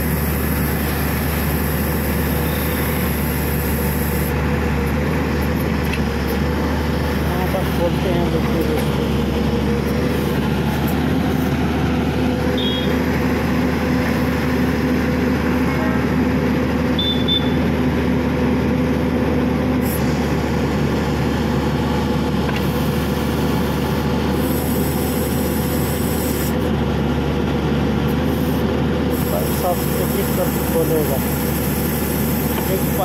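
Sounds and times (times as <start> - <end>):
drilling rig engine running: 0.0 - 33.0
steady machine hum: 0.0 - 33.0.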